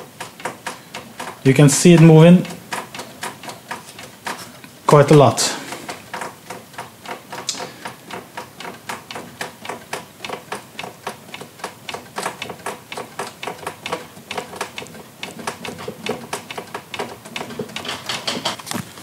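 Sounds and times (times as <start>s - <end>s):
machine carriage clicking and knocking: 0.0s - 19.0s.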